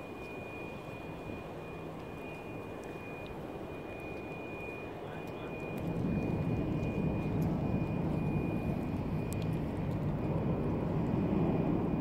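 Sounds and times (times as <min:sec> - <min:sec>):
high whine: 0:00.0 - 0:12.0
low engine rumble: 0:00.0 - 0:12.0.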